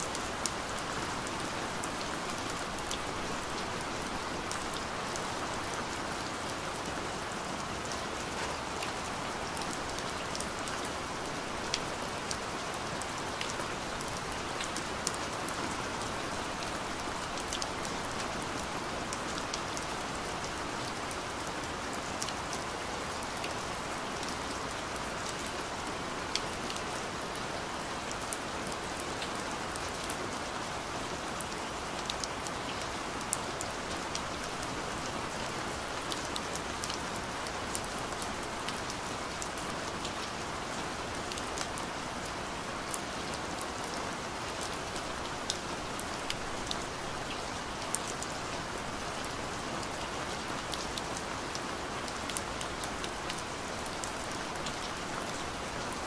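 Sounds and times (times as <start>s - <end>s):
sharp ticks of raindrops: 0.0s - 56.0s
steady rain falling: 0.0s - 56.0s.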